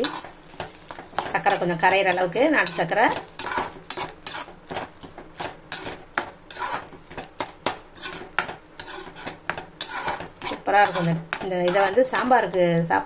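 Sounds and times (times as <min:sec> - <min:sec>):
metal spatula scraping a pan: 0:00.0 - 0:13.0.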